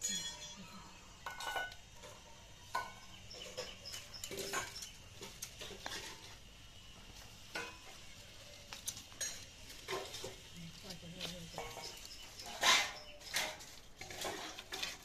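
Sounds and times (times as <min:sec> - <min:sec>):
dry stalks rattling and knocking: 0:01.2 - 0:06.6, 0:07.3 - 0:08.1, 0:08.7 - 0:15.0.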